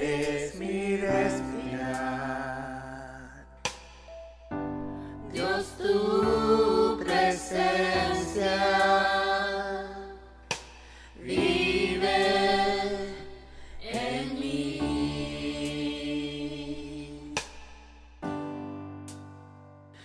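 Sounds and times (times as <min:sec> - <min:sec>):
group singing worship song: 0:00.0 - 0:03.6, 0:05.0 - 0:17.8
bass: 0:00.0 - 0:20.0
piano: 0:00.0 - 0:20.0.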